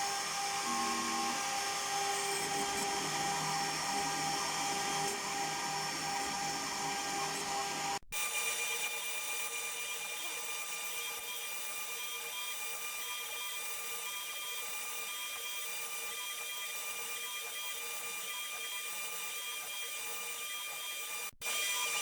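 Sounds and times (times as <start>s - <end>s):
router milling wood: 0.0s - 22.0s.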